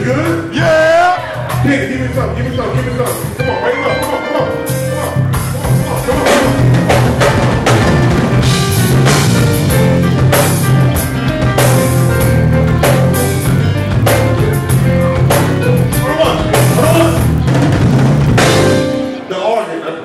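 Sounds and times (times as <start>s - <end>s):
heavy bass line: 0.0s - 19.2s
drum kit beating a groove: 0.0s - 19.3s
live band playing loudly: 0.0s - 19.5s.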